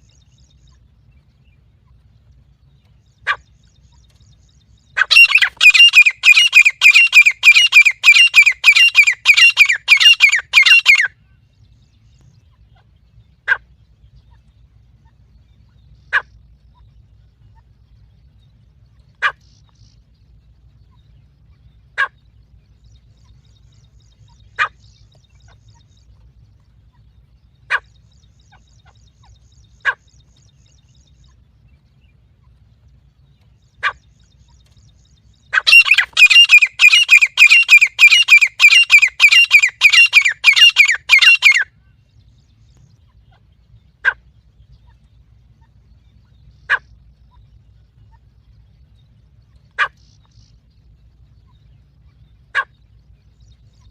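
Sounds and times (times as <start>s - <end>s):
francolin calling: 2.6s - 11.2s, 12.0s - 53.9s.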